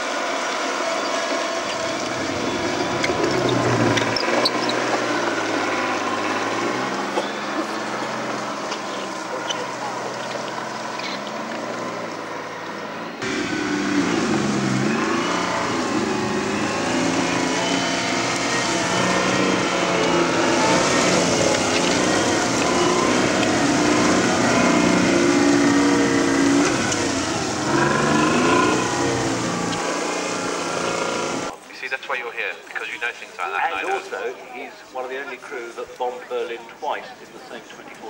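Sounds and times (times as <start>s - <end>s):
tracked vehicle engine: 0.0s - 38.0s.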